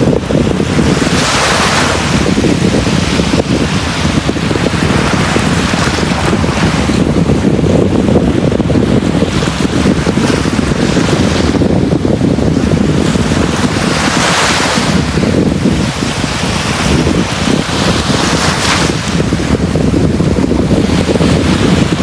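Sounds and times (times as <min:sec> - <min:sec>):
sea waves breaking on beach: 0:00.0 - 0:22.0
wind noise on microphone: 0:00.0 - 0:22.0.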